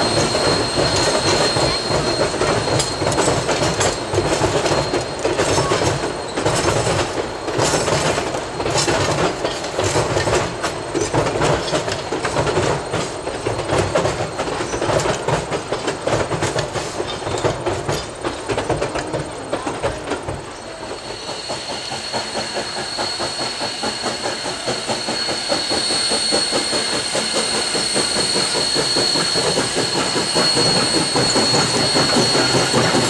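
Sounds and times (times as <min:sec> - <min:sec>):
train wheels clicking over rail joints: 0:00.0 - 0:33.0.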